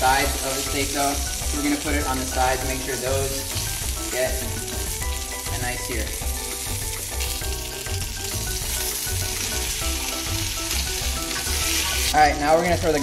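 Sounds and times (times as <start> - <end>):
background music with low beat: 0.0 - 13.0
steak sizzling in oil: 0.0 - 13.0.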